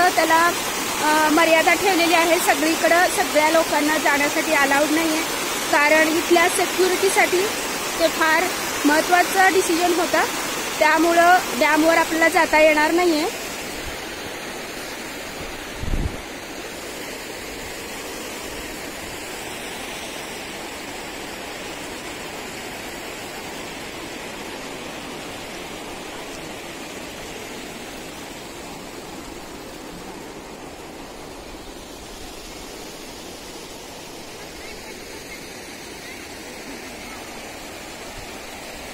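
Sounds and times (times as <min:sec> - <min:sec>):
flowing water from fountains: 0:00.0 - 0:38.9.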